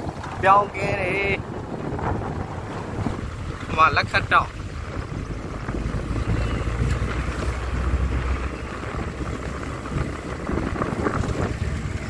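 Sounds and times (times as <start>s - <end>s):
vehicle rumble on road: 0.0s - 12.0s
wind buffeting microphone: 0.0s - 12.0s.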